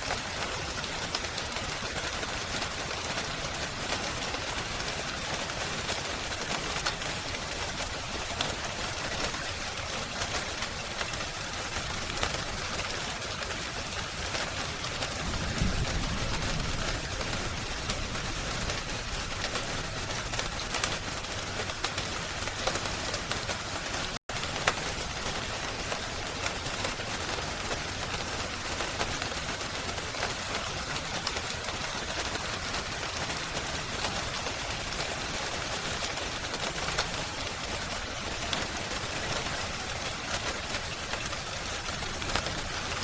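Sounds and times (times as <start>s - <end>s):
rain hiss: 0.0s - 43.0s.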